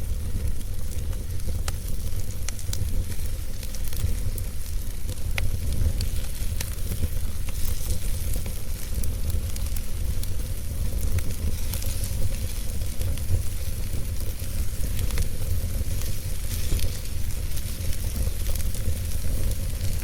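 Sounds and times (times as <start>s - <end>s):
fire hissing and rumbling: 0.0s - 20.0s
wood fire crackling and popping: 0.0s - 20.0s.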